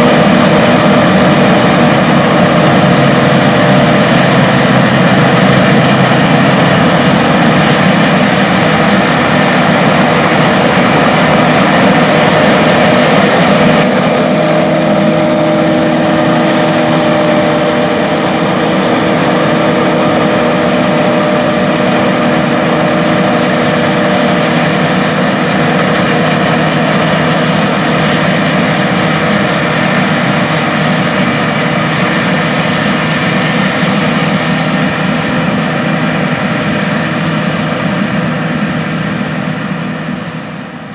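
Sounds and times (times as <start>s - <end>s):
combine harvester engine drone: 0.0s - 40.9s.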